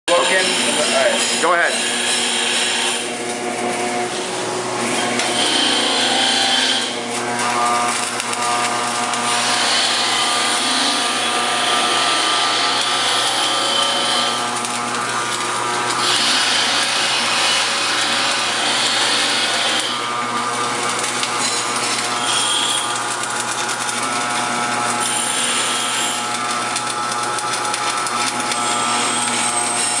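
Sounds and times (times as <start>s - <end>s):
welding arc crackling and hissing: 0.1s - 30.0s
welding machine hum: 0.1s - 30.0s.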